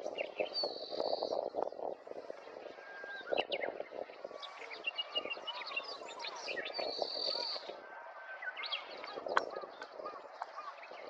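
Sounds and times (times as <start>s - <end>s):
songbirds twittering: 0.0s - 11.0s
wind noise on microphone: 0.0s - 11.0s.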